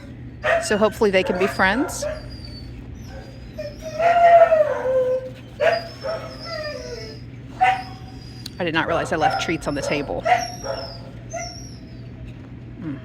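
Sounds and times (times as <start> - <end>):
dog whining: 0.0 - 13.0.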